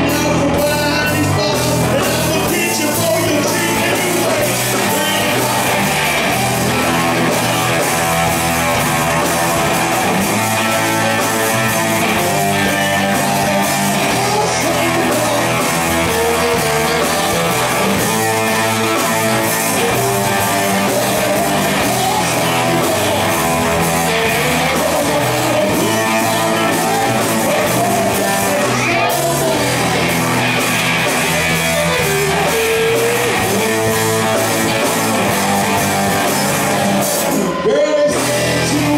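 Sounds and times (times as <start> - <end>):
drums: 0.0 - 38.9
electric and acoustic guitars: 0.0 - 38.9
man singing: 0.0 - 38.9.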